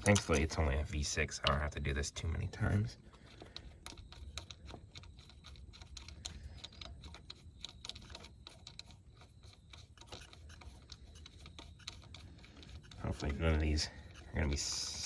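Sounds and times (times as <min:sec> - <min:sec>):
tools clicking and scraping: 0:00.0 - 0:15.0.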